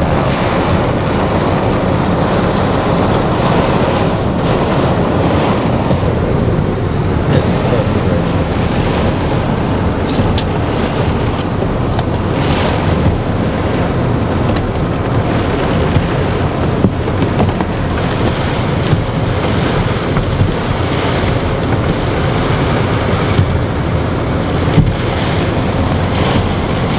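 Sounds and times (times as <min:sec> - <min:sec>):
heavy rain: 0:00.0 - 0:26.9
storm wind rushing: 0:00.0 - 0:26.9
wind buffeting microphone: 0:00.0 - 0:26.9.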